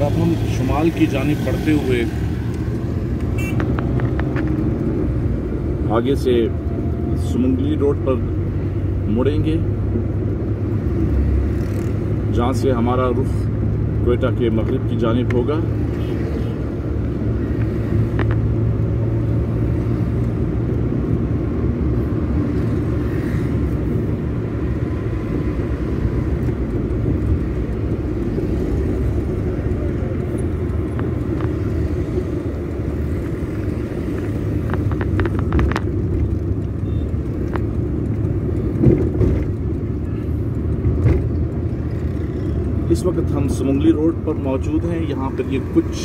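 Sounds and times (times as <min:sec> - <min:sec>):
car engine and tyres rumbling: 0:00.0 - 0:46.0.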